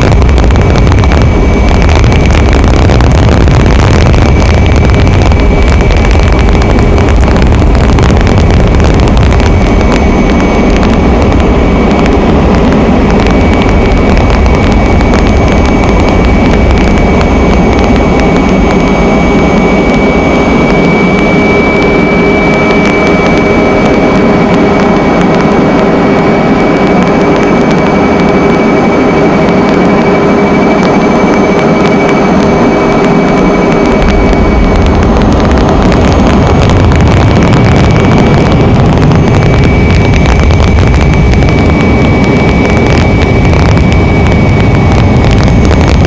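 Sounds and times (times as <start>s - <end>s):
aircraft engine whine and rumble: 0.0s - 46.0s.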